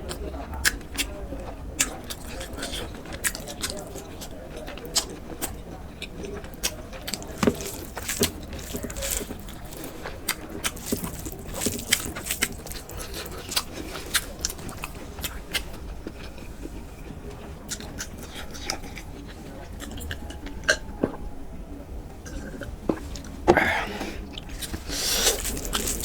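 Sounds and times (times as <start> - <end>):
person chewing food: 0.0 - 21.2, 22.2 - 26.0.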